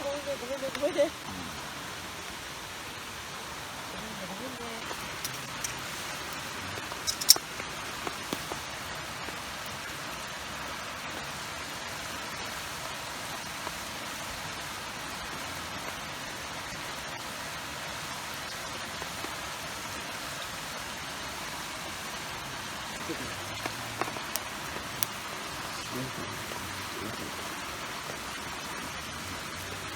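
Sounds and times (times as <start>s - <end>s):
rain hissing: 0.0s - 29.9s.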